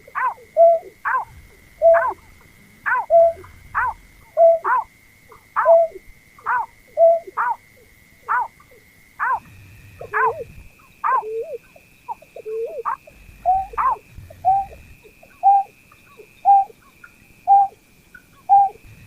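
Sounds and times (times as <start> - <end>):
bird calling: 0.0 - 18.9
faint steady high tone: 0.0 - 19.0.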